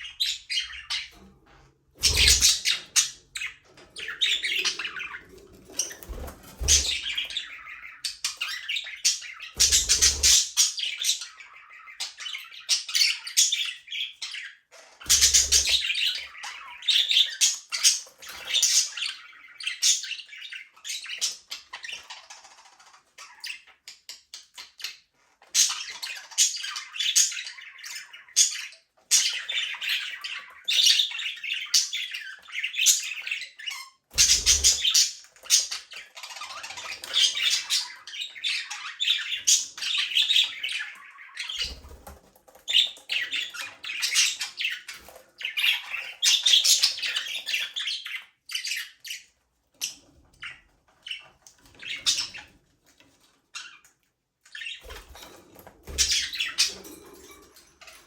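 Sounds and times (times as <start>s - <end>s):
budgerigars chattering and squawking: 0.0s - 53.9s, 54.5s - 58.0s.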